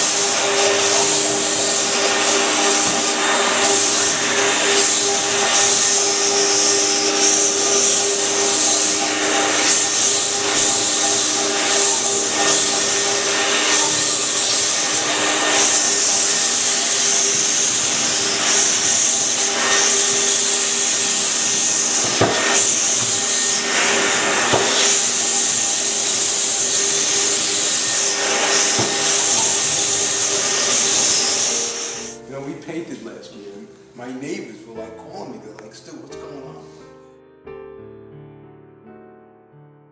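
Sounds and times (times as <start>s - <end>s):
floor buffer motor hum and hiss: 0.0s - 34.4s.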